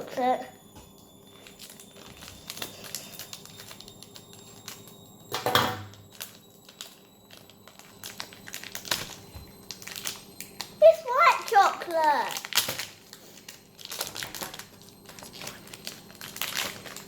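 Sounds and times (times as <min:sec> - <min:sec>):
plastic packaging crinkling: 0:01.3 - 0:05.0, 0:06.0 - 0:17.0
plastic packaging rustle: 0:01.3 - 0:05.0, 0:06.0 - 0:17.0.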